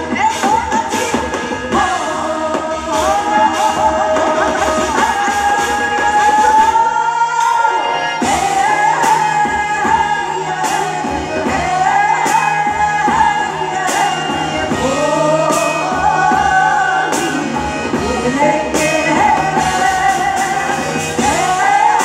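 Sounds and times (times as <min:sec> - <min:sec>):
rock song with singing: 0:00.0 - 0:22.0.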